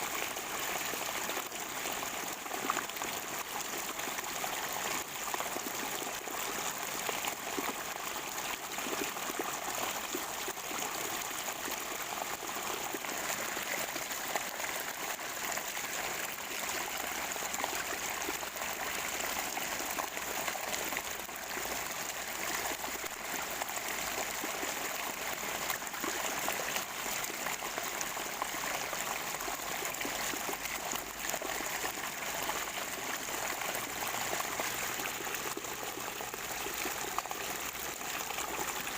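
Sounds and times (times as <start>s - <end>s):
spring water gurgling: 0.0s - 38.9s.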